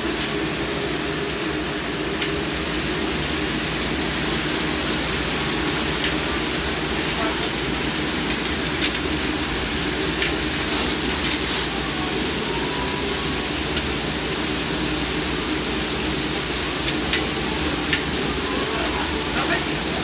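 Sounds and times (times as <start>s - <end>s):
water spraying and hissing: 0.0s - 20.0s.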